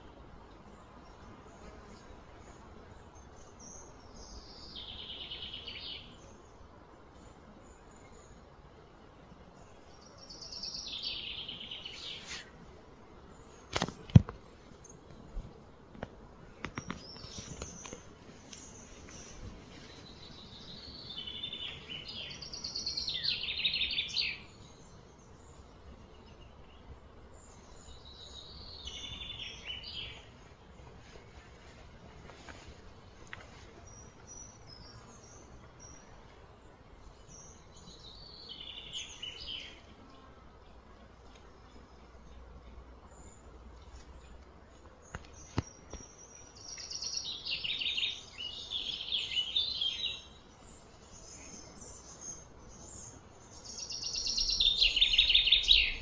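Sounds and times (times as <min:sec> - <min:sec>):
outdoor background noise: 0:00.0 - 0:56.0
songbird singing: 0:00.0 - 0:56.0.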